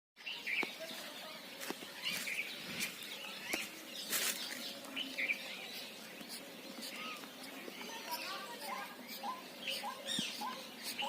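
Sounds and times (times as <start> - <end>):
parakeets chirping: 0.3 - 11.0.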